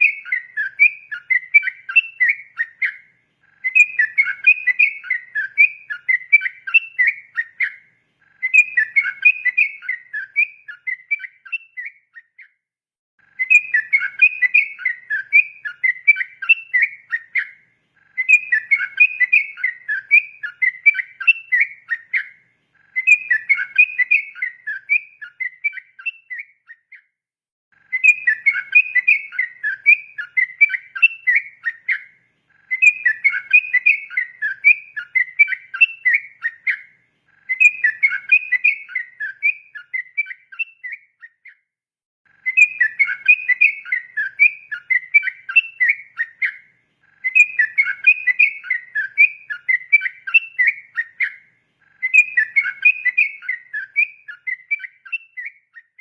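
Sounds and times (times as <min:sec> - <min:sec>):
bulbul singing whistled song: 0:00.0 - 0:12.6, 0:13.2 - 0:27.2, 0:27.8 - 0:41.7, 0:42.3 - 0:56.0.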